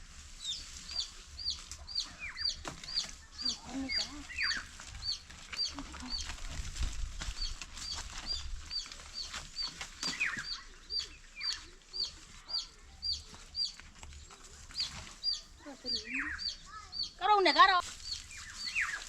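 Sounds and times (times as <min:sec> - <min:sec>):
chickens peeping: 0:00.4 - 0:19.0.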